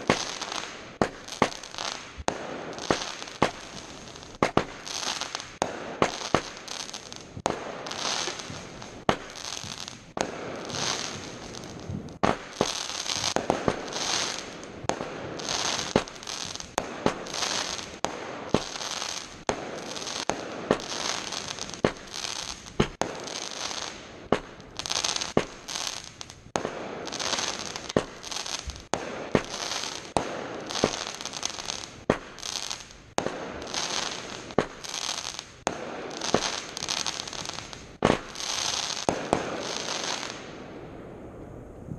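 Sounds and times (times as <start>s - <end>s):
crackling of bursting shells: 0.0s - 40.5s
fireworks bangs: 0.0s - 41.9s.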